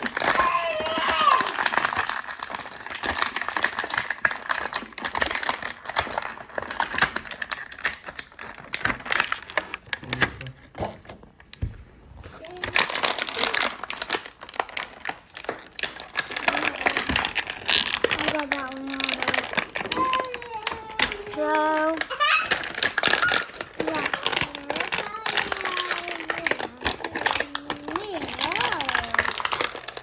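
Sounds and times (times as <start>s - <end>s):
plastic packaging crinkling: 0.0s - 11.6s, 12.2s - 30.0s.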